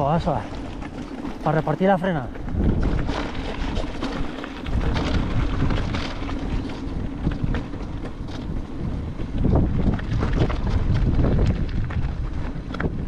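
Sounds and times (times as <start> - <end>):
bike knocks and rattles: 0.0 - 13.0
tyres rumbling on stones: 0.0 - 13.0
wind buffeting microphone: 0.0 - 13.0.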